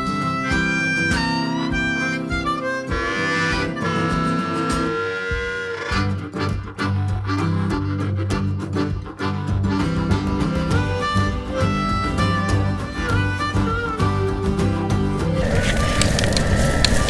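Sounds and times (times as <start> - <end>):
harmonica melody: 0.0 - 17.0
plucked guitar: 0.0 - 17.0.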